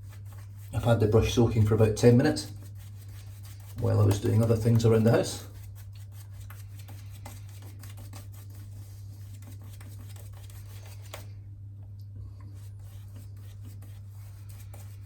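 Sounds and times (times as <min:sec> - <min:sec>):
shaving brush scratching: 0:00.0 - 0:11.4, 0:12.6 - 0:15.0
steady low hum: 0:00.0 - 0:15.0.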